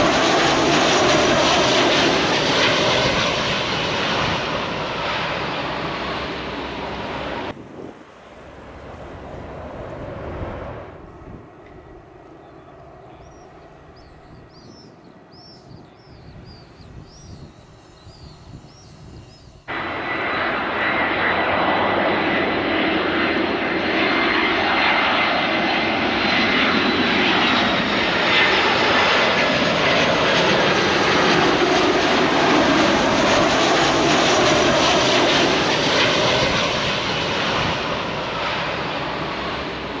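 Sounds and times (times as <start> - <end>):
high jet engine whine: 0.0 - 40.0
jet engine roar: 0.0 - 40.0.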